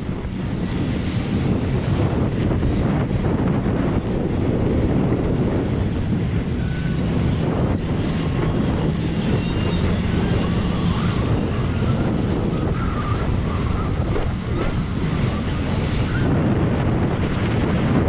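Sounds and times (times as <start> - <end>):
water rushing: 0.0 - 17.6
boat motor running: 0.0 - 18.0
wind buffeting microphone: 0.0 - 18.0.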